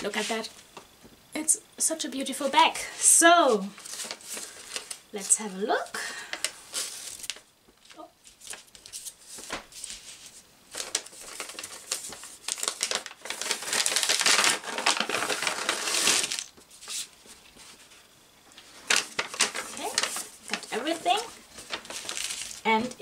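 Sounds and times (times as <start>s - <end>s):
wrapping paper crinkling: 3.5s - 23.0s.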